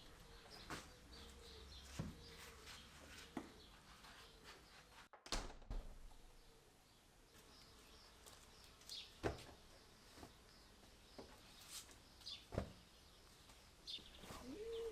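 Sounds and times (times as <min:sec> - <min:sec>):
faint birds chirping: 0:00.0 - 0:05.1, 0:06.1 - 0:14.9.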